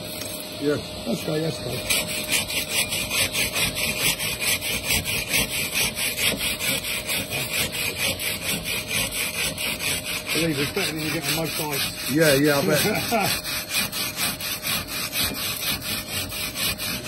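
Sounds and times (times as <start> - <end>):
hand saw cutting concrete block: 0.0 - 17.0.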